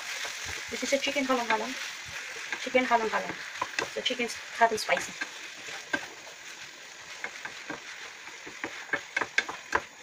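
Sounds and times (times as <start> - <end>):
chicken sizzling in a frying pan: 0.0 - 10.0
wooden spatula scraping a pan: 0.0 - 10.0.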